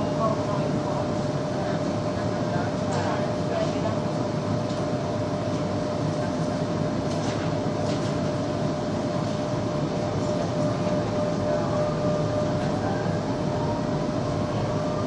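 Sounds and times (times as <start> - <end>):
constant whine: 0.0 - 15.0.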